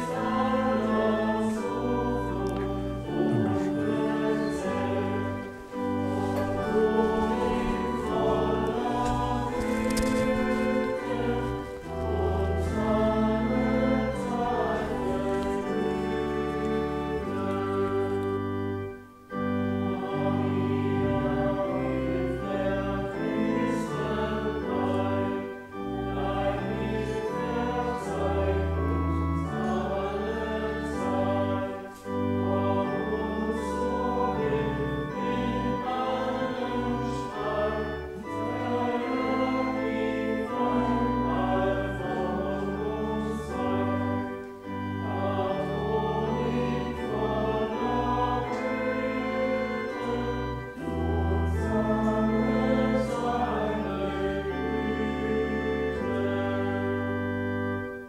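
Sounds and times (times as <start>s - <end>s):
church organ: 0.0s - 58.0s
voices singing a hymn: 0.0s - 58.0s.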